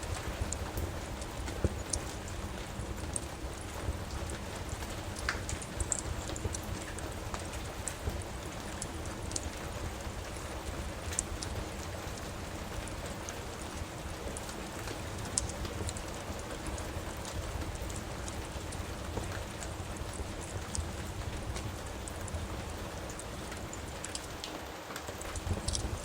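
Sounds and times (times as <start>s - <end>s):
steady rain: 0.0s - 26.0s
wood fire crackling and popping: 0.0s - 26.0s.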